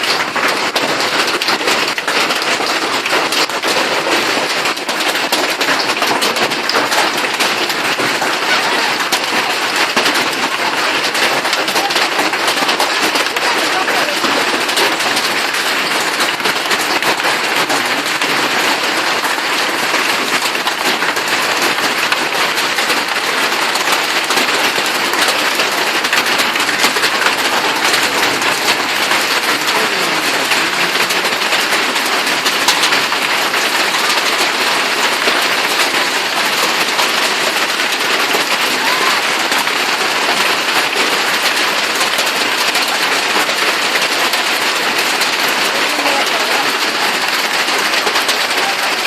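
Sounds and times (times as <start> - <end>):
hailstones pattering: 0.0 - 49.0.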